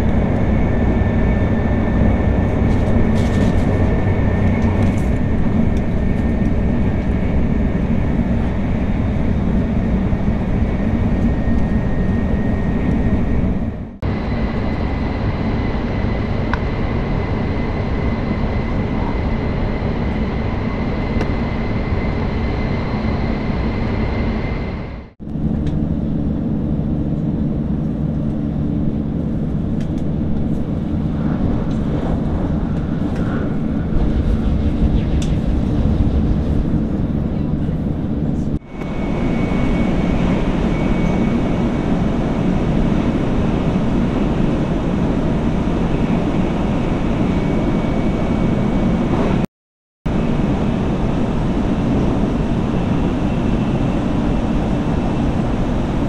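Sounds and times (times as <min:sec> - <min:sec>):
train running noise inside carriage: 0:00.0 - 0:49.4, 0:50.1 - 0:56.0.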